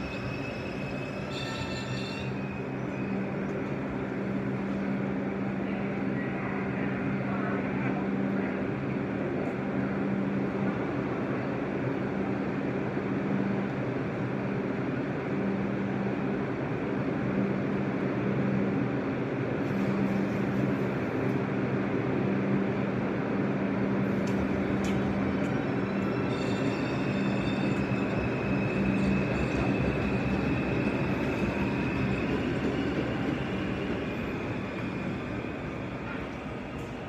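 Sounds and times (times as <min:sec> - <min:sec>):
subway train wheels rumbling: 0:00.0 - 0:37.0.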